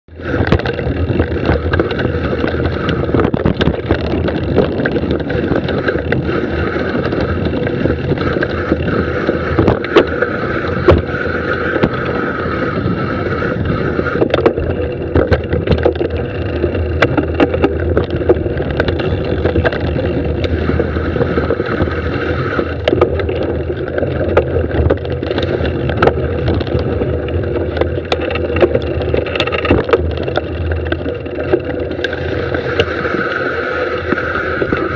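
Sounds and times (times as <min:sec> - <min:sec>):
bike rattling over rocks: 0:00.1 - 0:34.9
tyre and wind noise: 0:00.1 - 0:34.9.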